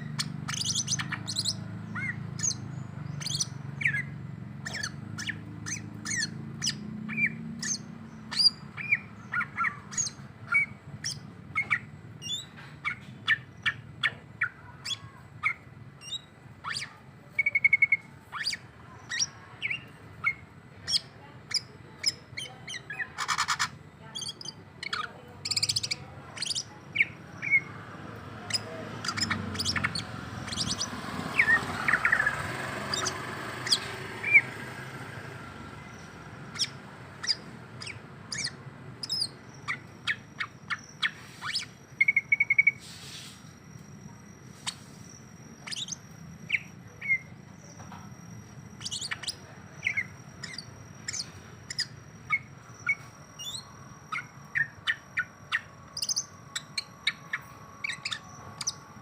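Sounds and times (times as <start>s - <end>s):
bird chirping and trilling: 0.0s - 59.0s.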